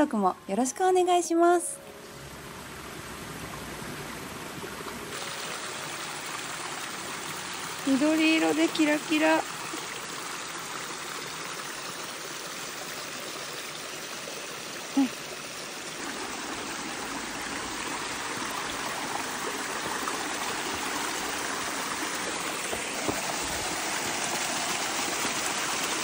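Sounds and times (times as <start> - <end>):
stream running over rocks: 2.4 - 26.0.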